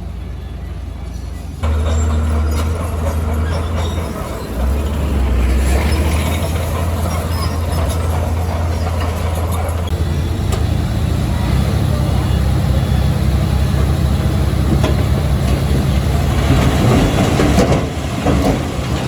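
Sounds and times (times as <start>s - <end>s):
bulldozer diesel engine: 0.0s - 19.0s
metallic track clatter: 1.6s - 12.0s, 13.6s - 19.0s.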